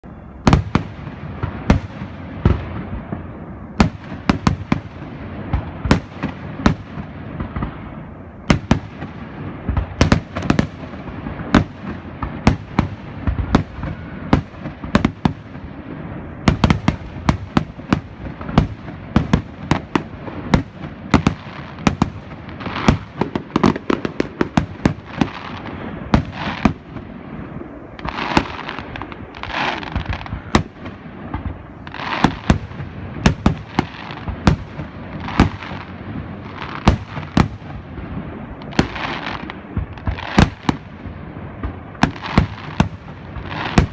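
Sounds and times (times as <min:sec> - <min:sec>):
fireworks bangs and crackling: 0:00.0 - 0:43.9
rumble of echoing explosions: 0:00.0 - 0:43.9.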